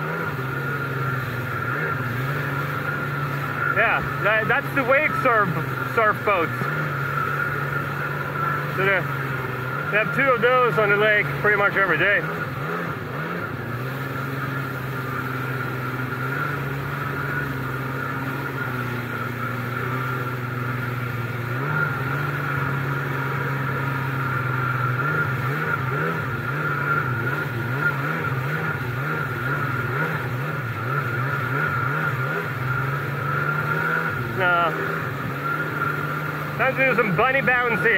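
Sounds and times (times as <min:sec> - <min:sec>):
jet ski engine running: 0:00.0 - 0:37.9.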